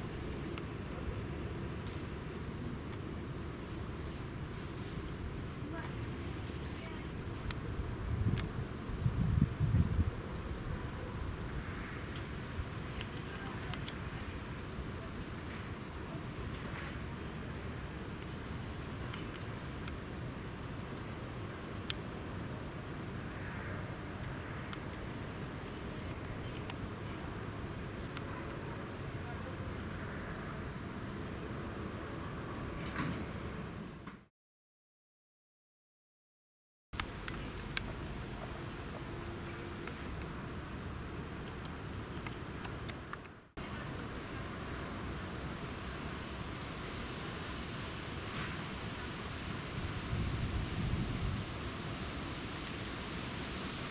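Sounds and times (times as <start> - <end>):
insect chirring: 6.9 - 34.0, 37.0 - 53.9.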